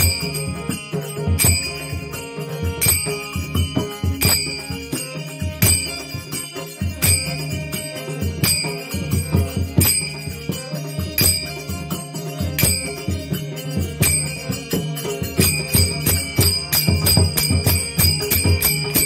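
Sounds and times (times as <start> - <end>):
hand cymbals clashing: 0.0 - 19.0
hand drum strokes: 0.0 - 19.0
harmonium: 0.0 - 19.0.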